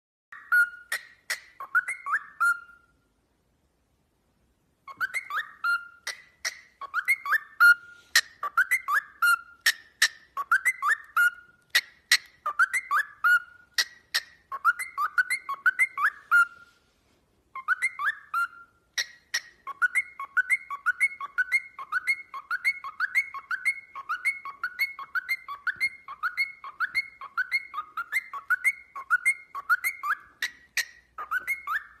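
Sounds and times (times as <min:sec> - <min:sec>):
cockatiel whistling ringtone: 0:00.3 - 0:02.9, 0:04.9 - 0:16.8, 0:17.5 - 0:32.0.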